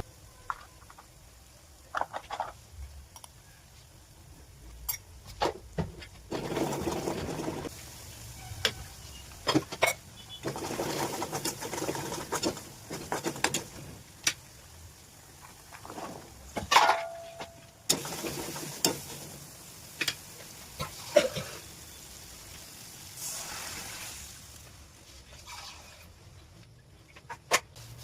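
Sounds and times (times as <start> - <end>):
sizzling: 0.0 - 26.8, 27.6 - 28.0.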